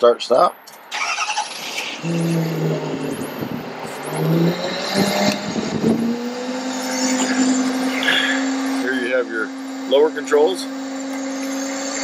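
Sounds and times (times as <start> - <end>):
higher machine tone: 2.0 - 12.0.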